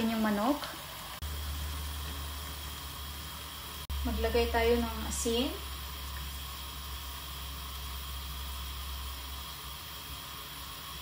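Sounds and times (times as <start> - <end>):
water boiling with bubbling hiss: 0.0 - 11.0
low even hum: 1.0 - 11.0.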